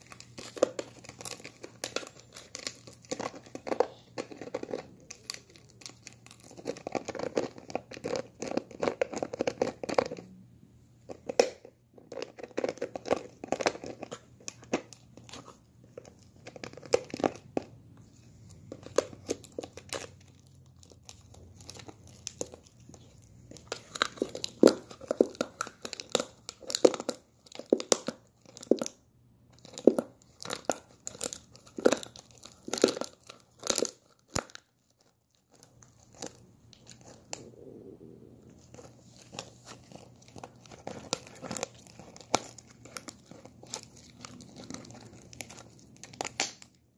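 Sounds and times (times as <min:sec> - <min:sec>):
dog gnawing plastic bottle: 0:00.0 - 0:10.3, 0:11.1 - 0:37.6, 0:38.5 - 0:46.9
plastic bottle crinkling: 0:00.0 - 0:10.3, 0:18.4 - 0:37.5, 0:38.5 - 0:46.8.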